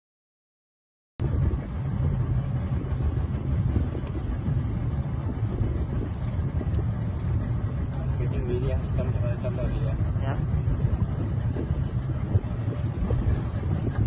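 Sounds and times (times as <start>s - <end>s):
boat engine rumbling: 1.2s - 14.0s.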